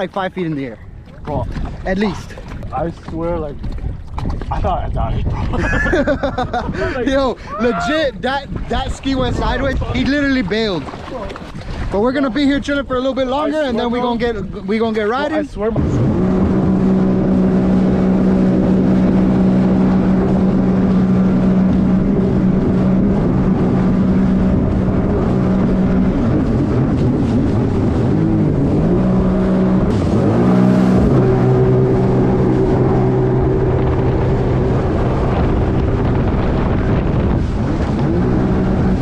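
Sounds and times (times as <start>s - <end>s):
jet ski engine running: 0.0s - 39.0s
wind on microphone: 0.0s - 39.0s.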